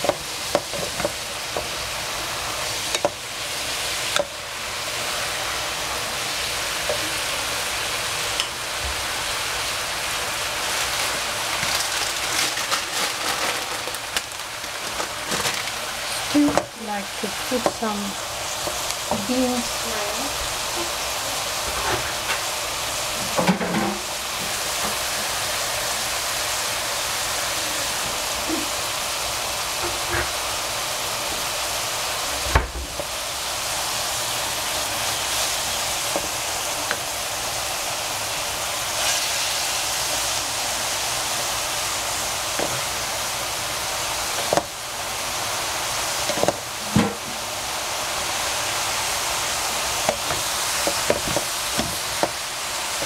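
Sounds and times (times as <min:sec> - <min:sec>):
beans sizzling in a pan: 0:00.0 - 0:53.0.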